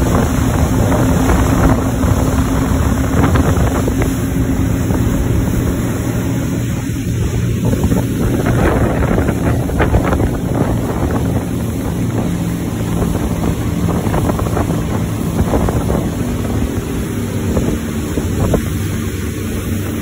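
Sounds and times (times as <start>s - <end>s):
speedboat engine humming: 0.0s - 20.0s
water rushing past hull: 0.0s - 20.0s
wind buffeting microphone: 0.0s - 20.0s.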